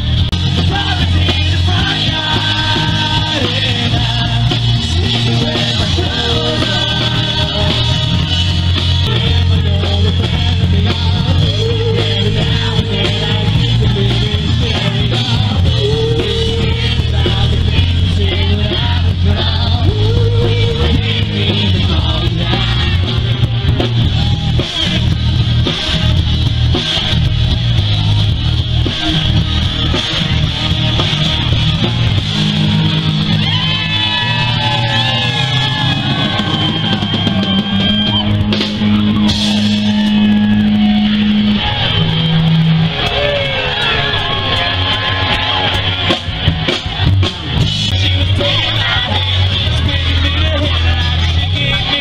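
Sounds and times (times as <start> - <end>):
drum kit: 0.0 - 52.0
electric bass: 0.0 - 52.0
electric guitar bending notes: 0.0 - 52.0.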